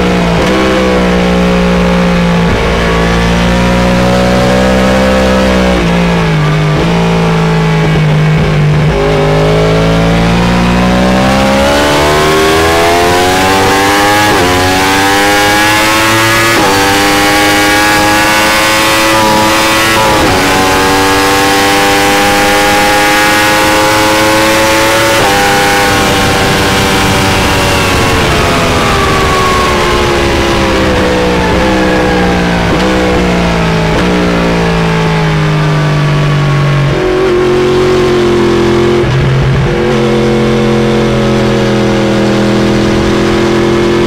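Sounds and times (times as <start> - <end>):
motorcycle engine at speed: 0.0 - 44.0.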